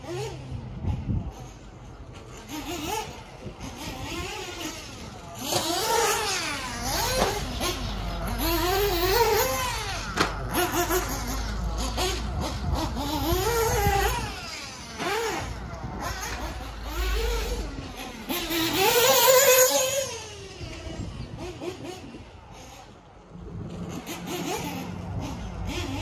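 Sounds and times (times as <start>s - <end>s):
small nitro engine revving: 0.0s - 26.0s.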